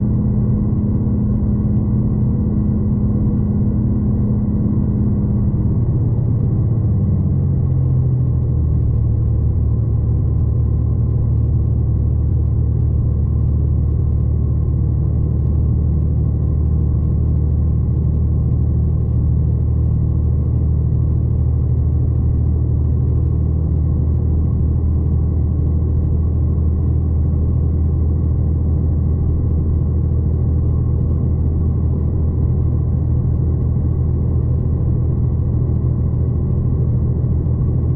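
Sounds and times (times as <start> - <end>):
diesel train engine drone: 0.0 - 37.9.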